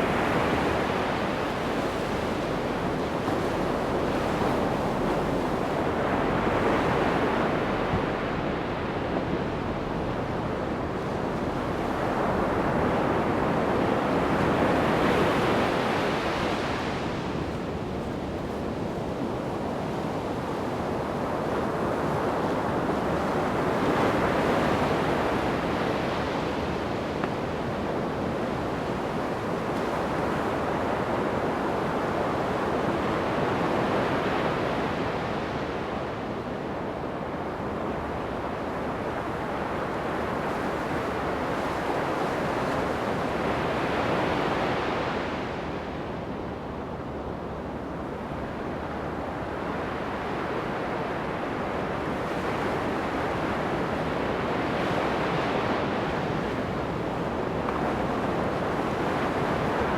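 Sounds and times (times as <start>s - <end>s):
surf breaking on a beach: 0.0s - 59.9s
wind on the microphone: 0.0s - 59.9s.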